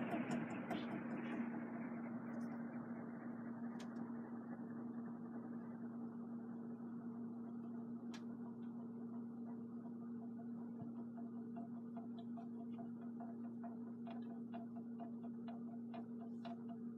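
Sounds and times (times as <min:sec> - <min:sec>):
ceiling fan motor hum: 0:00.0 - 0:16.9.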